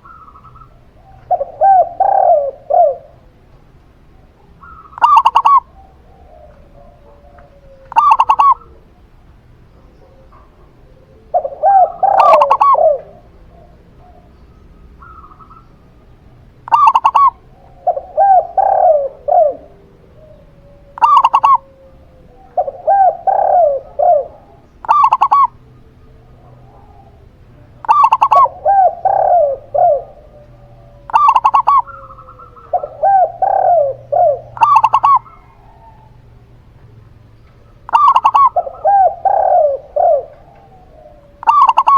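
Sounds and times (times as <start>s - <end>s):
short higher dove coos: 0.0s - 3.3s, 4.6s - 8.9s, 10.0s - 14.3s, 16.7s - 36.3s, 37.9s - 41.9s
longer lower dove coo phrases: 0.0s - 41.9s.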